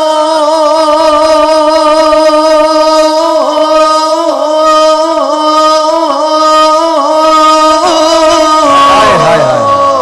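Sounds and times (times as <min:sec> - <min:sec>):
man singing a long held note: 0:00.0 - 0:10.0.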